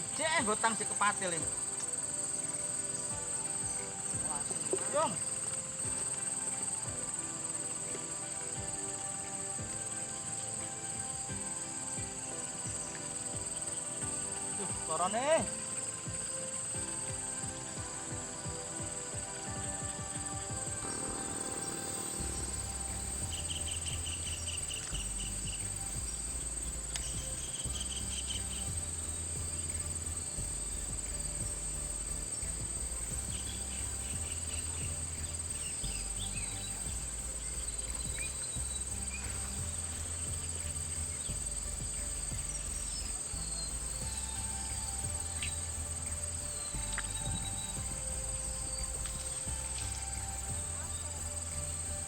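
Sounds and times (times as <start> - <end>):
background music with bass line: 0.0 - 52.0
insect chirping trills: 0.0 - 52.0
insects droning: 0.0 - 52.0.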